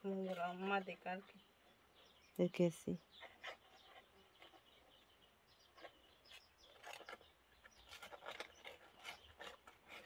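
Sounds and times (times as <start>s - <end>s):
fingers scratching wet soil: 0.0s - 1.2s, 3.0s - 10.0s.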